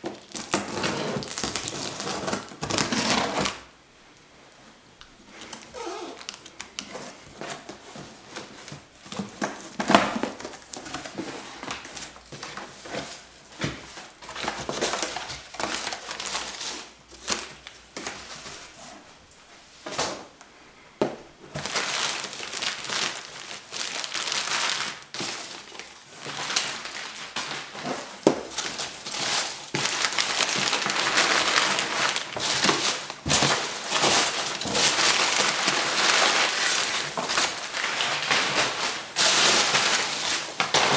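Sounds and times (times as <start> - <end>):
rustling packing peanuts and paper: 0.0 - 3.7, 5.3 - 19.1, 21.4 - 40.9.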